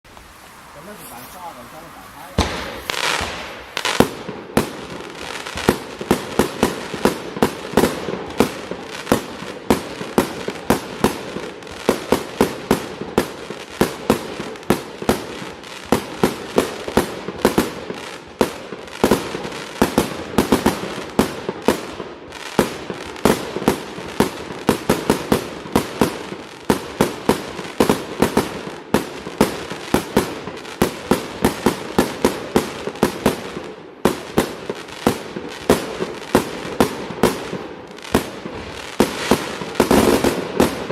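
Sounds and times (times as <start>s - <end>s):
firework bangs: 0.1s - 40.9s.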